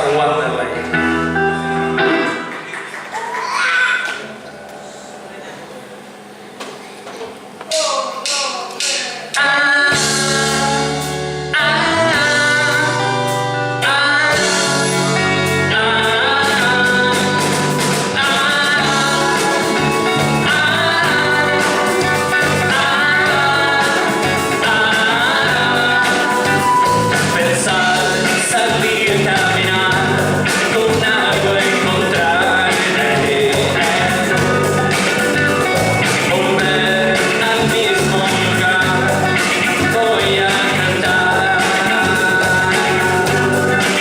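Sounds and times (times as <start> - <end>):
band playing a song: 0.0 - 4.9, 7.4 - 44.0
sung vocals: 7.7 - 44.0.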